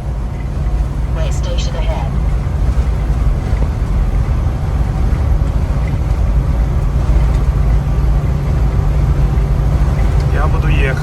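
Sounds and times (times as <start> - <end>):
truck road noise: 0.0 - 11.0.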